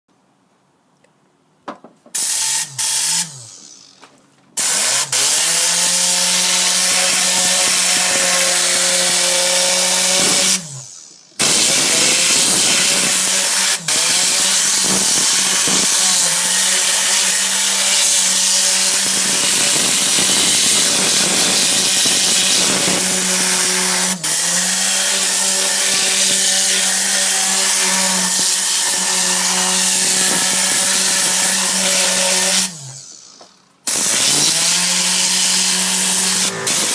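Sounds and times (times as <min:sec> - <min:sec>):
air gun blowing compressed air: 0:02.1 - 0:04.0, 0:04.6 - 0:36.9.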